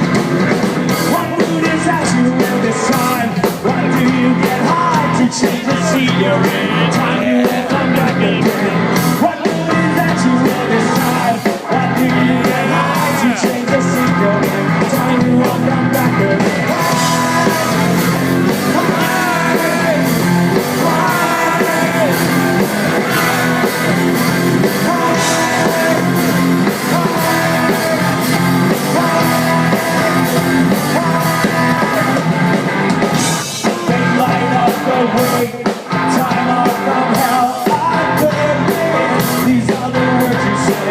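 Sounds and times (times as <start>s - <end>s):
live rock band playing: 0.0s - 40.9s
singer's vocals: 0.0s - 40.9s.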